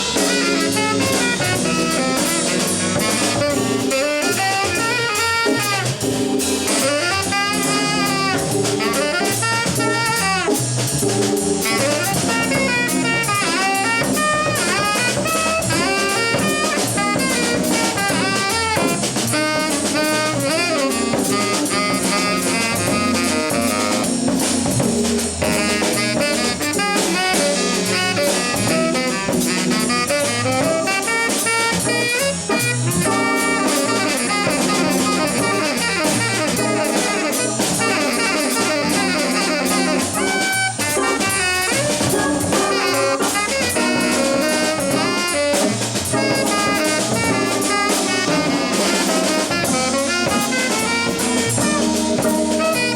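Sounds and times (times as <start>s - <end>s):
bass line: 0.0s - 52.9s
drum kit keeping time: 0.0s - 52.9s
winding lead melody: 0.0s - 52.9s.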